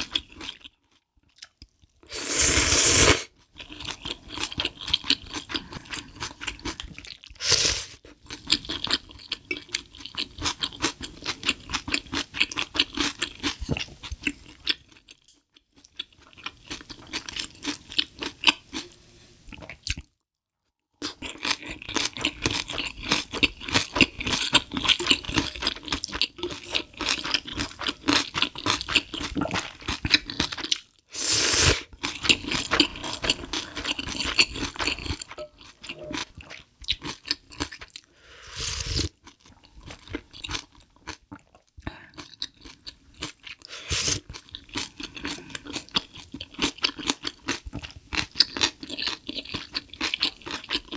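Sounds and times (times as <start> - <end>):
person chewing crunchy food: 0.0 - 18.9, 19.5 - 20.1, 21.0 - 50.9.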